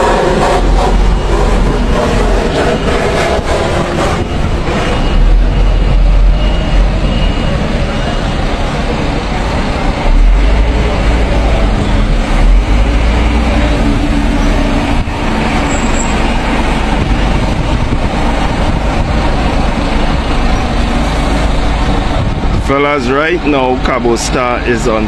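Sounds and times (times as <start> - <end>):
heavy vehicle engine rumbling: 0.0 - 25.0.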